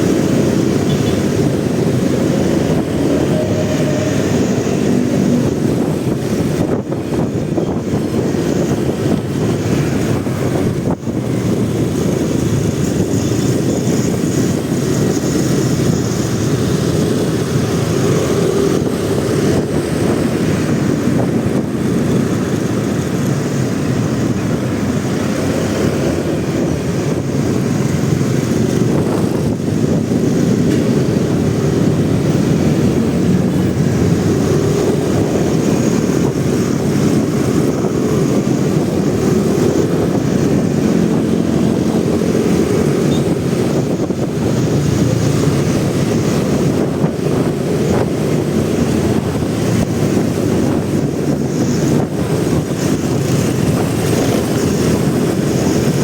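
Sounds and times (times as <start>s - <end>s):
motorcycle engine and road drone: 0.0s - 56.0s
wind rush on microphone: 0.0s - 56.0s.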